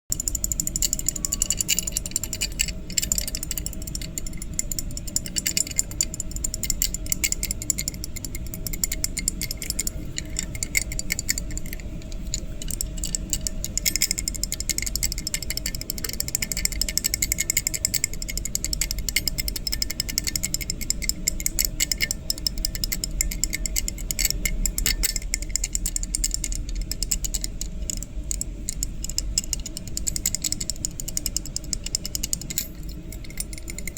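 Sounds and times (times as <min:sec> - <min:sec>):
rapid mechanical clicking and rattling: 0:00.1 - 0:33.9.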